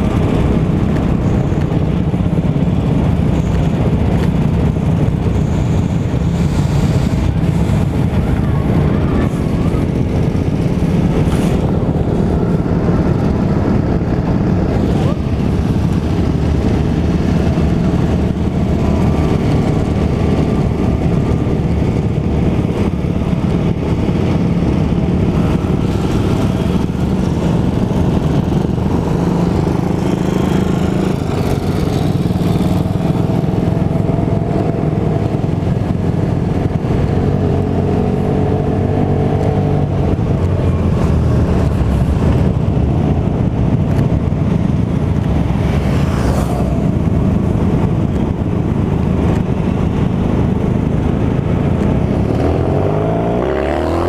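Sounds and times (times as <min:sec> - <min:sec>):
scooter engine running: 0:00.0 - 0:53.4
motorcycle engines: 0:00.0 - 0:54.0.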